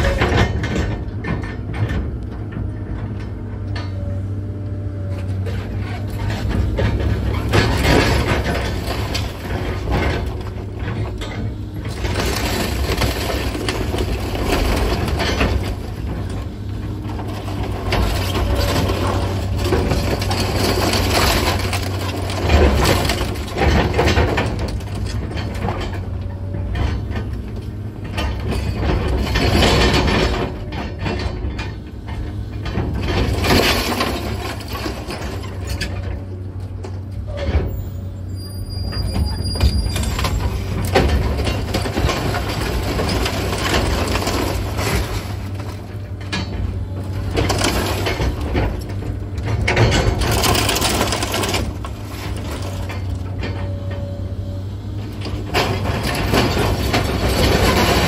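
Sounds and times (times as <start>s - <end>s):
demolition debris crunching: 0.0s - 37.9s, 38.7s - 58.0s
diesel engine under load: 0.0s - 58.0s.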